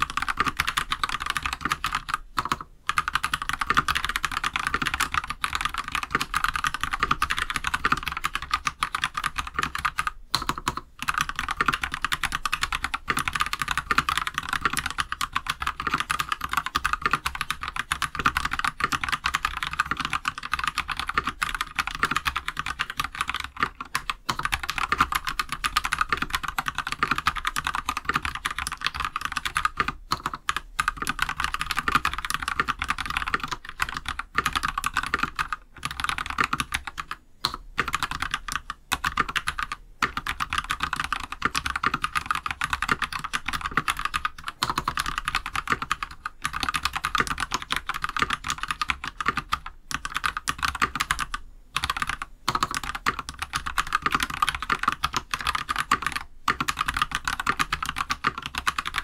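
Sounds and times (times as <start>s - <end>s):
fast typing on mechanical keyboard: 0.0s - 59.0s.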